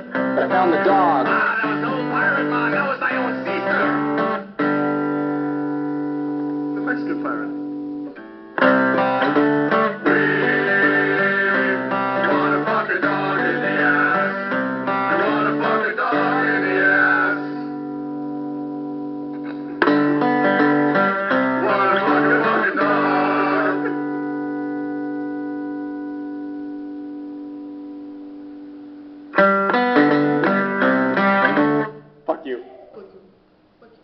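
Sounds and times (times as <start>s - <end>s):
strummed guitar chords: 0.0s - 32.2s.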